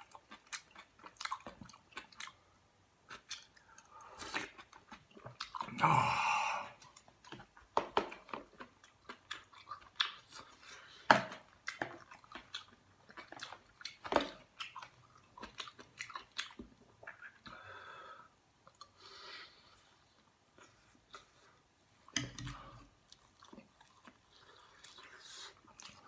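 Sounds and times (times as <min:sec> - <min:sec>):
person chewing food: 0:00.0 - 0:17.7, 0:18.6 - 0:26.0.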